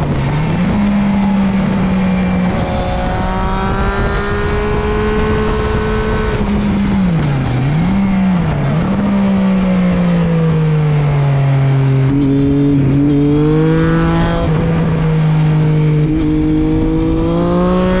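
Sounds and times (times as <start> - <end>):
motorcycle engine running hard: 0.0 - 18.0.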